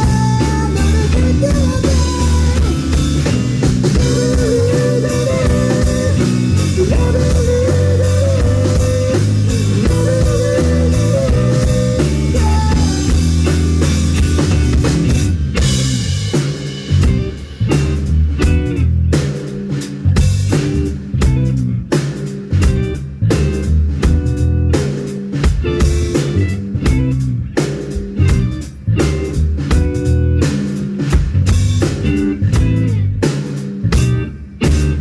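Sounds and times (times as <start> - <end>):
bass guitar: 0.0 - 35.0
drum kit: 0.0 - 35.0
electric guitar: 0.0 - 35.0.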